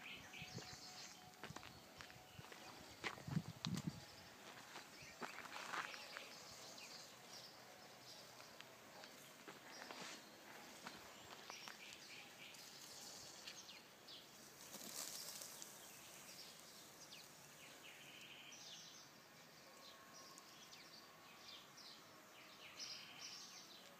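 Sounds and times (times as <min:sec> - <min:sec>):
birds chirping: 0:00.0 - 0:23.9
low background hiss: 0:00.0 - 0:23.9.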